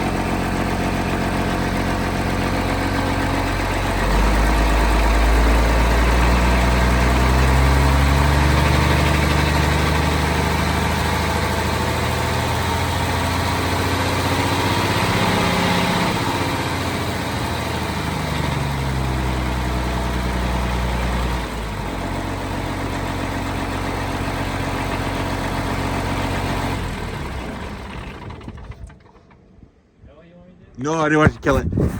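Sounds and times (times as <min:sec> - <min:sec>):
diesel engine idling and revving: 0:00.0 - 0:29.4.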